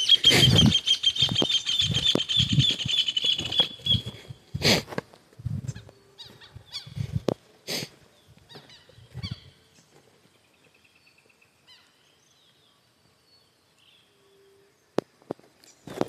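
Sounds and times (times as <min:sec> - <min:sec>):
bird chirps: 0:00.0 - 0:04.6, 0:05.6 - 0:07.1, 0:08.2 - 0:15.0.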